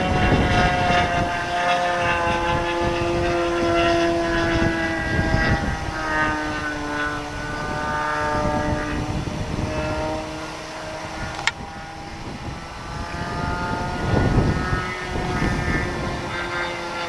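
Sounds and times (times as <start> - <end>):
model plane engine buzzing: 0.0 - 17.0
wind rumbling on microphone: 0.0 - 17.0.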